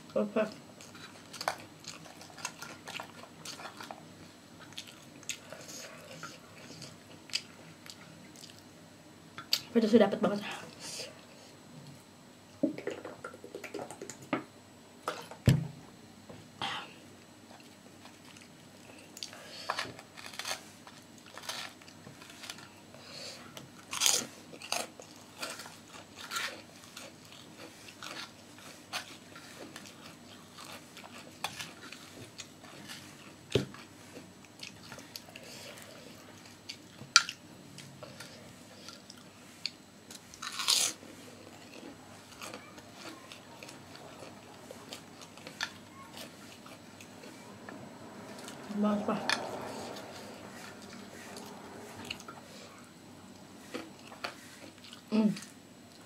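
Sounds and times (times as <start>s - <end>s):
person chewing crisp food: 0.8s - 8.7s, 17.5s - 48.7s, 49.3s - 56.0s.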